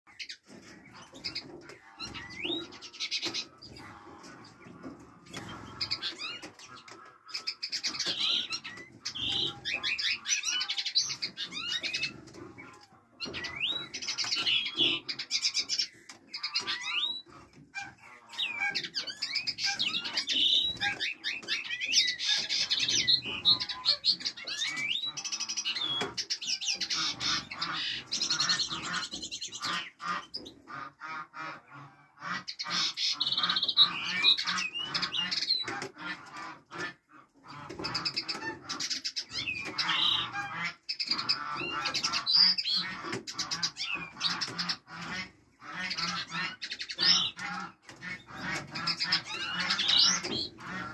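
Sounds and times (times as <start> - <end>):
finches chirping and trilling: 0.1 - 30.7, 37.7 - 50.9.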